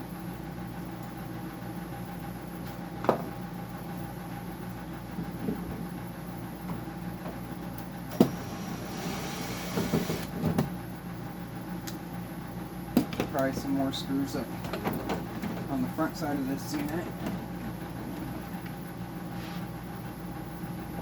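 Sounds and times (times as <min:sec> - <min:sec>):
electrical machine hum: 0:00.0 - 0:21.0.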